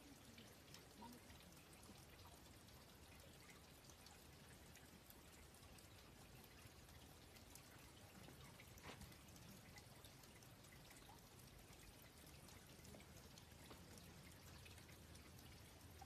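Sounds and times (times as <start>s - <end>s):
faint steady hiss: 0.0s - 16.0s
soft ticks: 0.1s - 16.0s.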